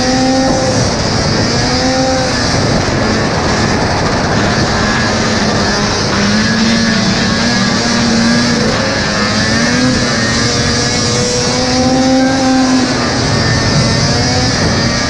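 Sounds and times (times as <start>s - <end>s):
snowmobile engine at speed: 0.0s - 15.0s
track noise: 0.0s - 15.0s
wind: 0.0s - 15.0s.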